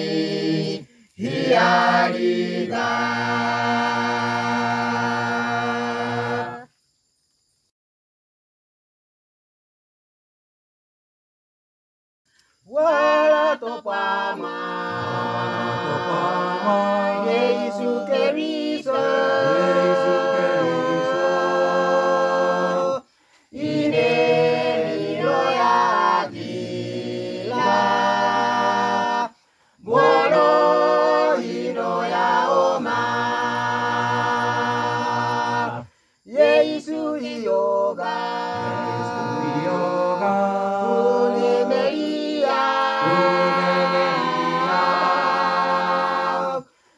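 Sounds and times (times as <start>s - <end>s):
mixed choir singing unaccompanied: 0.0s - 6.7s, 12.7s - 46.8s.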